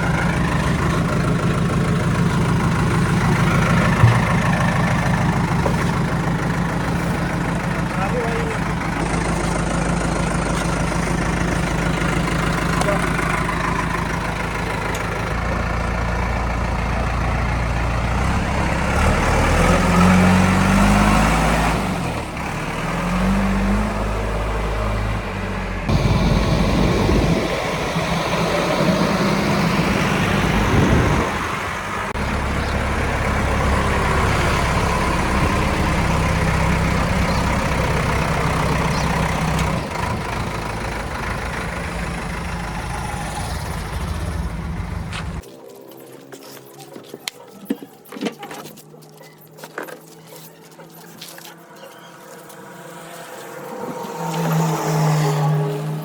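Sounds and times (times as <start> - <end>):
diesel engine revving: 0.0 - 45.4, 52.4 - 56.0.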